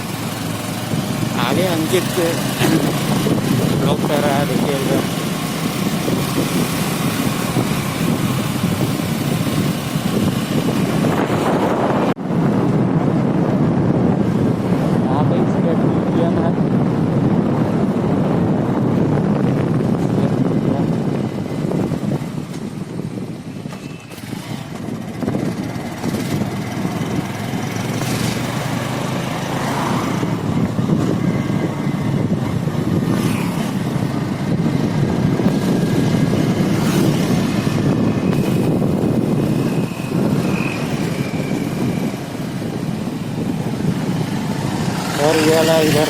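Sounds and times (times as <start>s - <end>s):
motorcycle engine: 0.0s - 46.0s
road noise: 0.0s - 46.0s.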